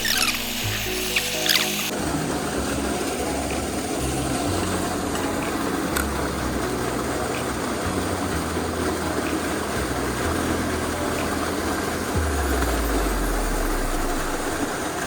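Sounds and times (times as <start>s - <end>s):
mountain stream rushing: 0.0s - 15.0s
low rumble: 1.9s - 15.0s.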